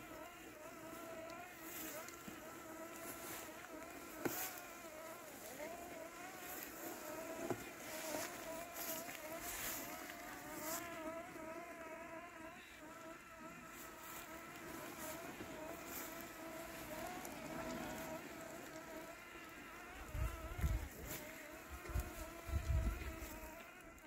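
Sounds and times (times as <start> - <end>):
robotic lawn mower buzzing: 0.0 - 24.0.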